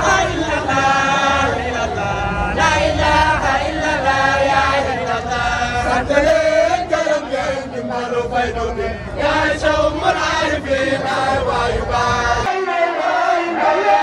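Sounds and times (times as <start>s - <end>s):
group chanting sung notes: 0.0s - 14.0s.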